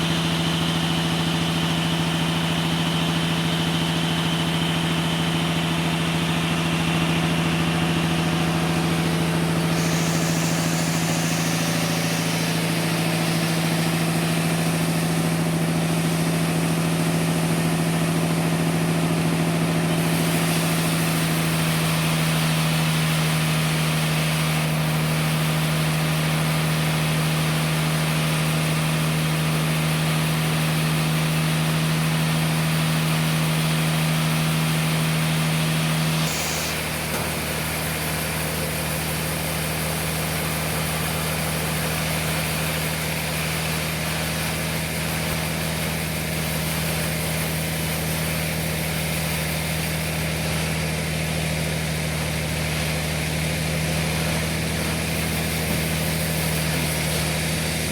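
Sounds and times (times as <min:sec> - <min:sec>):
sawmill engine humming: 0:00.0 - 0:57.9.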